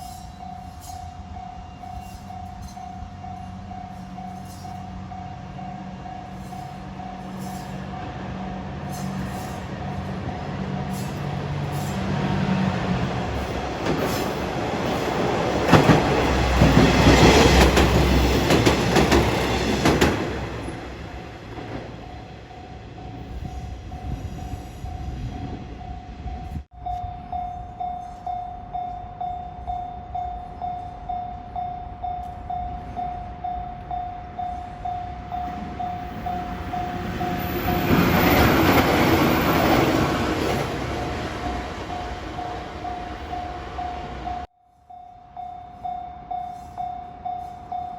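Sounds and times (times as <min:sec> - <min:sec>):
diesel railcar engine droning: 0:00.0 - 0:47.9
train wheel and rail noise: 0:00.0 - 0:47.9.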